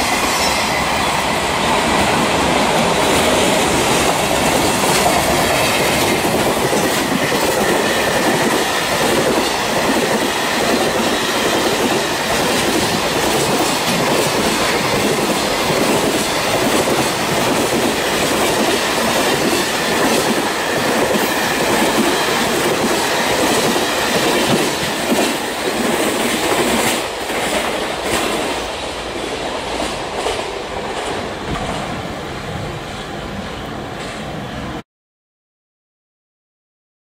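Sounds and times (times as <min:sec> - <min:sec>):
freight train rolling past: 0:00.0 - 0:34.8
wheels clacking over rail joints: 0:01.2 - 0:32.1.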